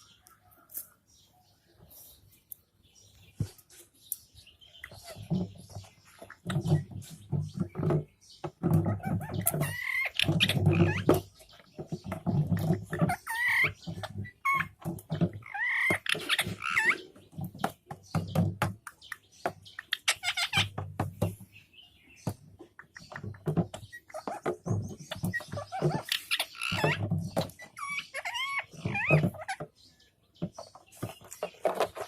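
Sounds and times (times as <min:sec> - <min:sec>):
knocks and rustles: 0:04.9 - 0:32.0.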